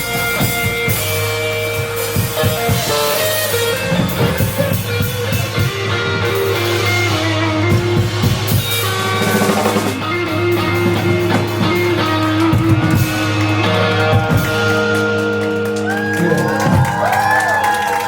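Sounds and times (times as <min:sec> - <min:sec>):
guitar ringing notes: 0:00.0 - 0:16.8
rock band playing instrumental: 0:00.0 - 0:18.0.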